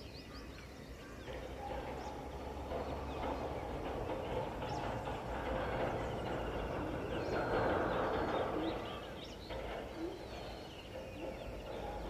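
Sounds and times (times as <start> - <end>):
rumbling background noise: 0.0 - 12.0.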